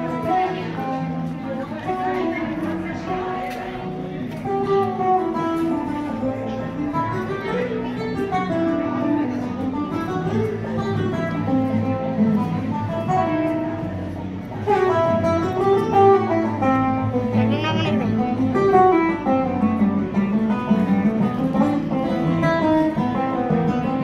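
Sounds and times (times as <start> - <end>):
guitar plucked melody: 0.0 - 24.0.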